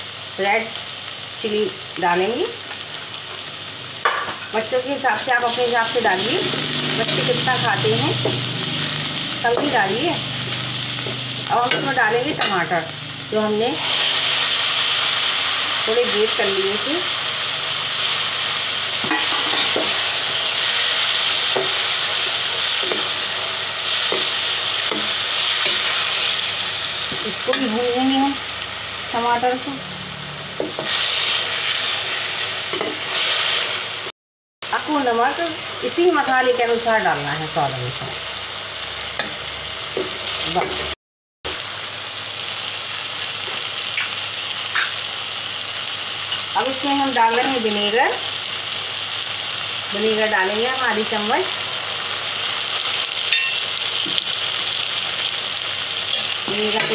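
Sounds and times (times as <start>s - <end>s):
vegetables sizzling in hot oil: 0.0s - 56.9s.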